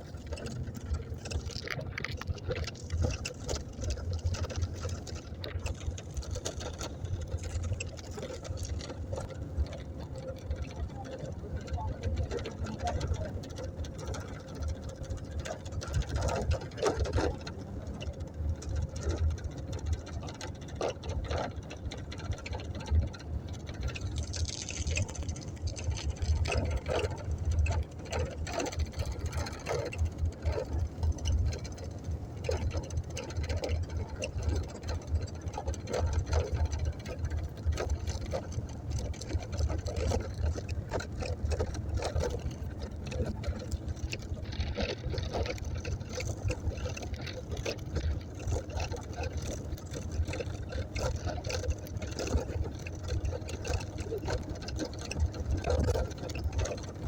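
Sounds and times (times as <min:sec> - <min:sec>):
motorboat engine drone: 0:00.0 - 0:57.0.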